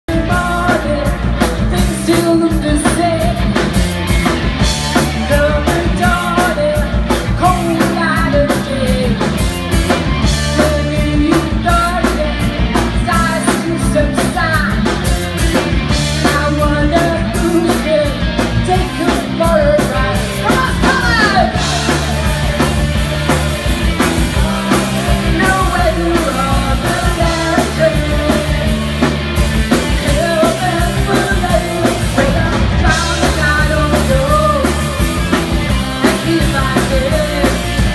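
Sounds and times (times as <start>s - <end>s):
bass guitar: 0.0s - 37.9s
drum kit beat: 0.1s - 37.9s
electric guitars: 0.1s - 37.9s
woman singing lead: 0.1s - 37.9s.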